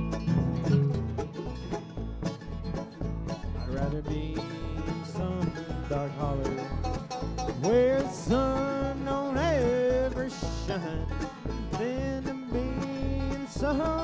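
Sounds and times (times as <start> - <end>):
acoustic guitar: 0.0 - 14.0
banjo: 0.0 - 14.0
mandolin: 0.0 - 14.0
upright bass: 0.0 - 14.0.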